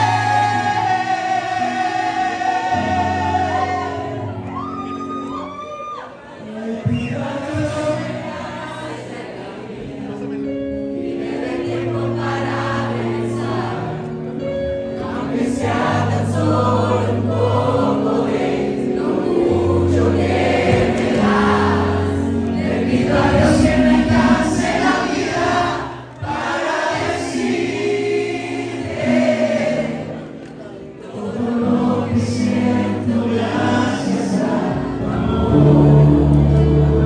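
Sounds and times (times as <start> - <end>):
audience singing along: 0.0 - 4.6, 6.1 - 37.0
keyboard piano chords and bass: 0.0 - 5.6, 6.4 - 37.0.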